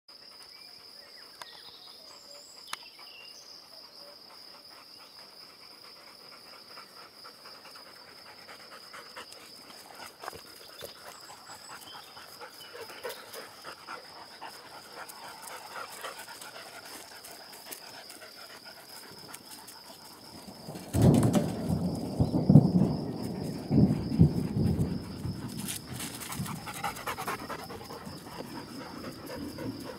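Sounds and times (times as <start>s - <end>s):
dogs panting: 0.2s - 29.9s.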